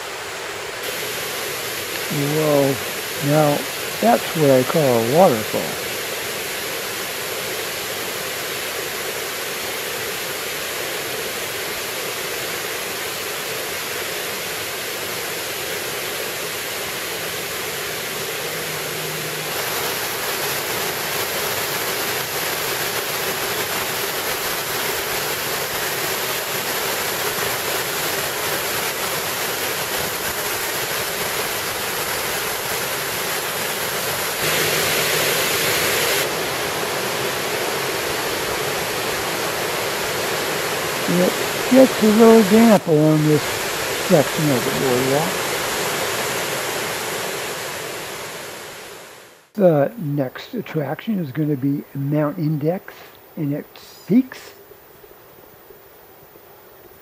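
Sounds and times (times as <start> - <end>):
waterfall roaring: 0.0 - 54.8.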